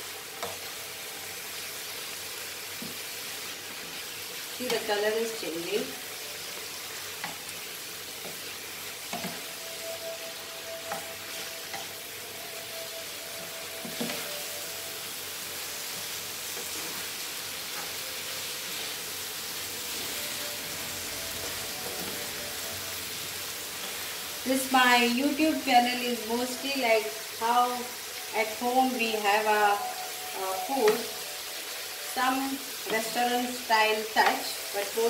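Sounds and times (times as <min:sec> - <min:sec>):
sauce sizzling in a frying pan: 0:00.0 - 0:35.0.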